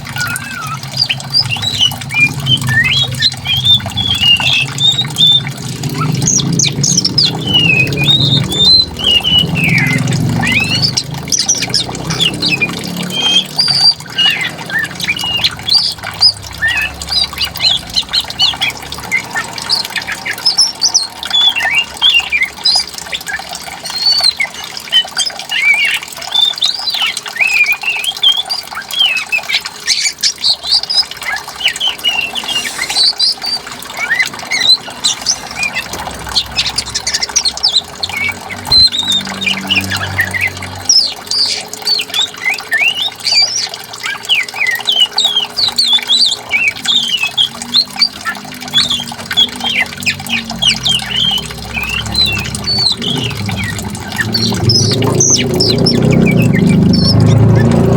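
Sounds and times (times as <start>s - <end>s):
flowing water: 0.0s - 57.9s
songbirds chirping: 0.0s - 57.9s.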